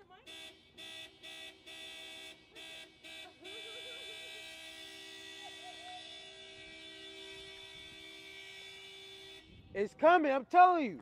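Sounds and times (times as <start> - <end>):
car horn honking: 0.0 - 10.0.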